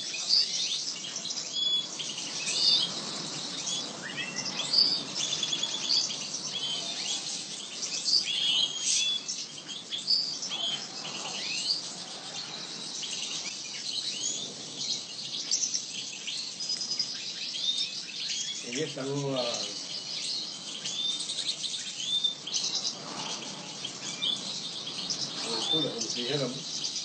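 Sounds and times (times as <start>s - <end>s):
finches chirping and twittering: 0.0s - 27.0s.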